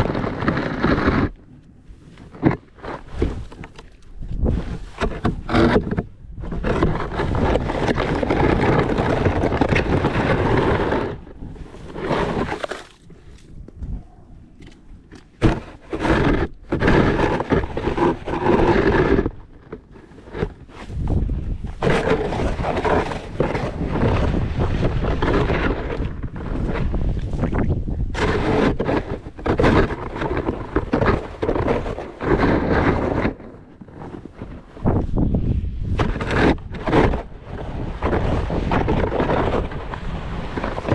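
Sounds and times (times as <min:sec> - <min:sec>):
snow shovel scraping: 0:00.0 - 0:01.4, 0:02.0 - 0:03.7, 0:04.4 - 0:13.0, 0:15.4 - 0:40.9.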